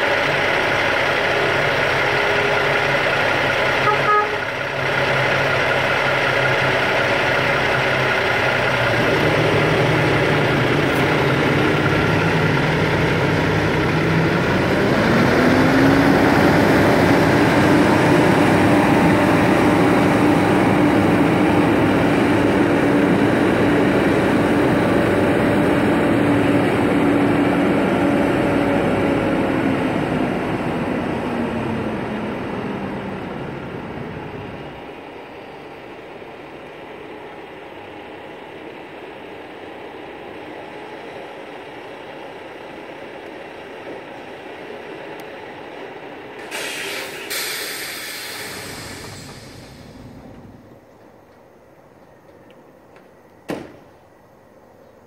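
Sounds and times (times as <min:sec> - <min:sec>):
diesel truck engine running: 0:00.0 - 0:52.5.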